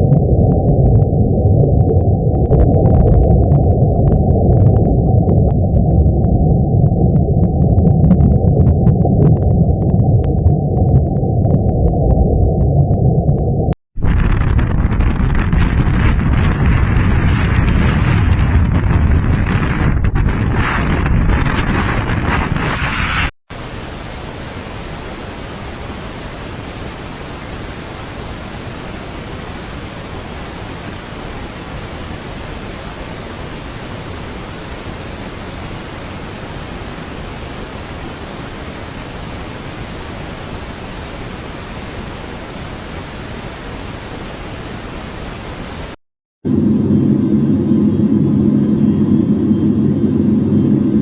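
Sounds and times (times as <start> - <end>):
steady rushing noise: 0.0 - 49.1.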